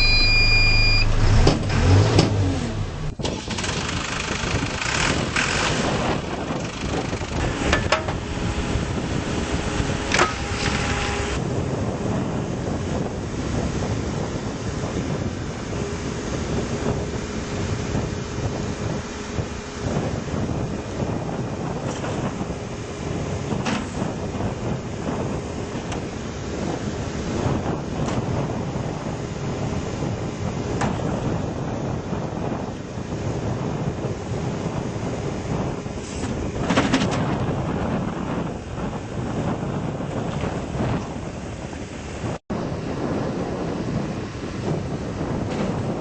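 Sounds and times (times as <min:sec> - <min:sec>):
diesel engine running: 0:00.0 - 0:40.1
wind buffeting microphone: 0:00.0 - 0:46.0.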